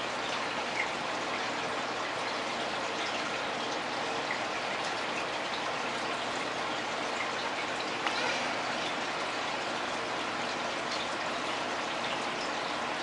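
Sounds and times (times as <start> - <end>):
aquarium water bubbling: 0.0 - 13.0.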